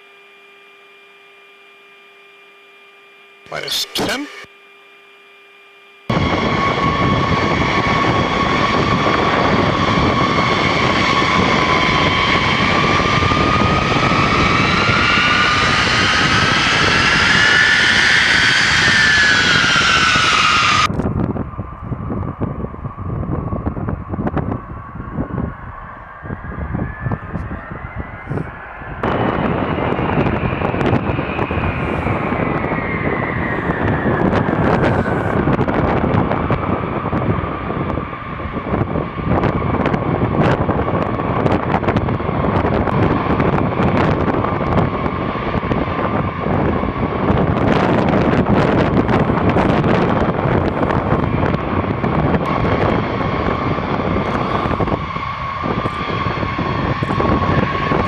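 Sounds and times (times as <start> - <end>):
jet engines running with whine: 0.0 - 58.0.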